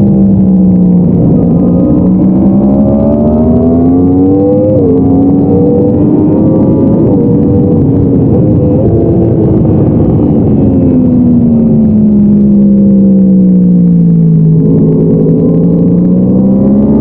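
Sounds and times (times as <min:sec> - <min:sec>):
sport-bike engine revving: 0:00.0 - 0:10.7, 0:11.6 - 0:17.0.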